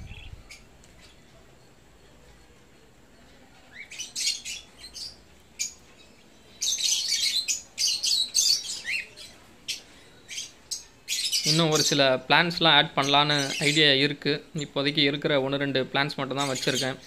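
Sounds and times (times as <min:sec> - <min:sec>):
lovebirds chattering and squawking: 0:00.0 - 0:01.4, 0:03.3 - 0:17.0.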